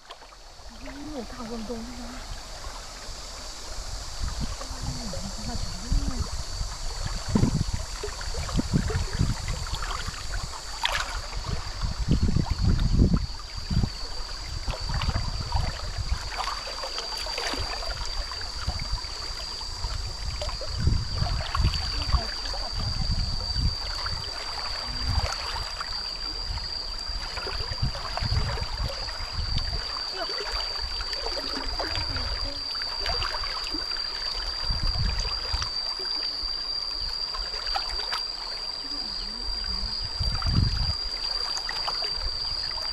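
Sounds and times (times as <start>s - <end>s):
stream water flowing: 0.0s - 42.9s
wading sloshes and thumps: 4.2s - 42.9s.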